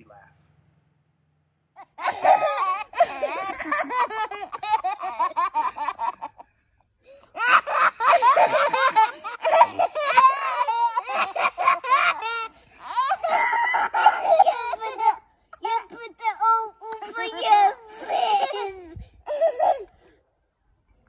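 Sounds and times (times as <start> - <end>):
young children laughing: 1.8 - 20.0.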